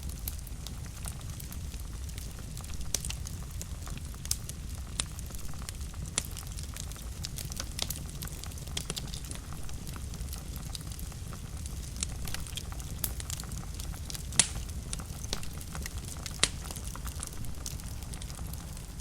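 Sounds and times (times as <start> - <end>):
flames rumbling in fireplace: 0.0 - 19.0
wood fire crackling and popping: 0.0 - 19.0.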